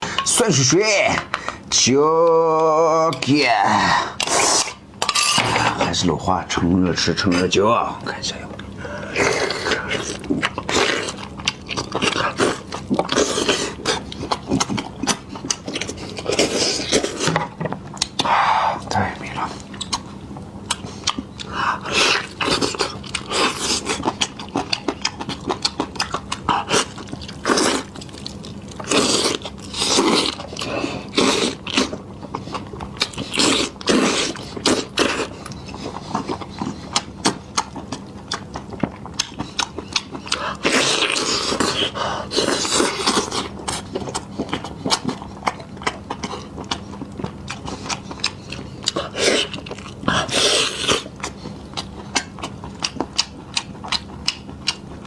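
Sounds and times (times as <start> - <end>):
faint steady hum: 0.0 - 55.0
chewing and biting: 8.6 - 18.3, 19.4 - 55.0.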